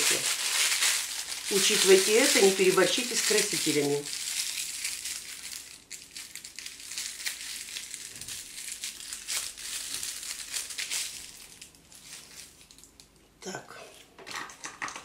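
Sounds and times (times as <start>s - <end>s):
plastic piping bag crinkling: 0.0s - 13.2s.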